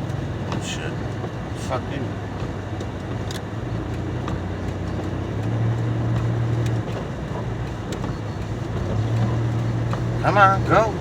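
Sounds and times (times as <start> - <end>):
van engine running inside cabin: 0.0 - 11.0.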